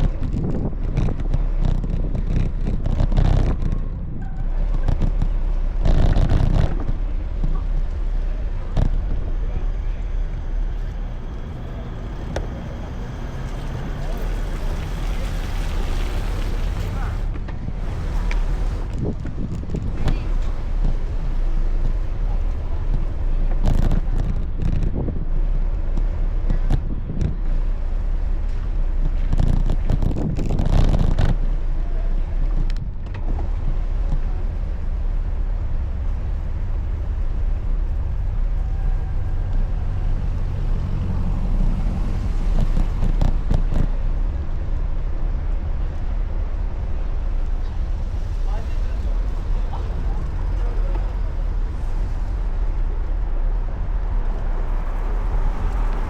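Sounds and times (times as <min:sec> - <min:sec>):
road traffic: 0:00.0 - 0:56.0
wind noise on microphone: 0:00.0 - 0:56.0.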